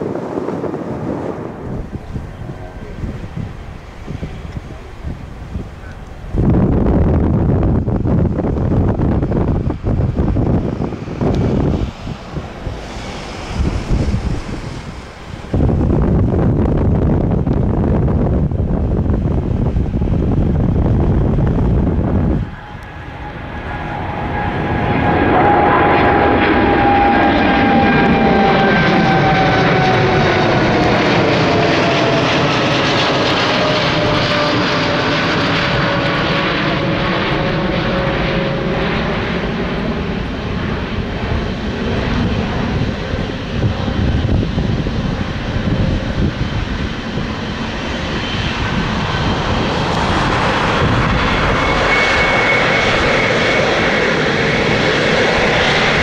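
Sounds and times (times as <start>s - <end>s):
jet engines passing by: 0.0s - 56.0s.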